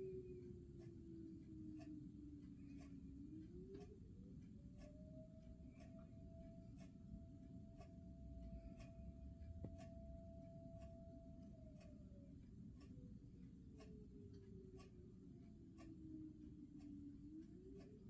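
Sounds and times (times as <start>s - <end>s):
distant mechanical siren: 0.0s - 18.0s.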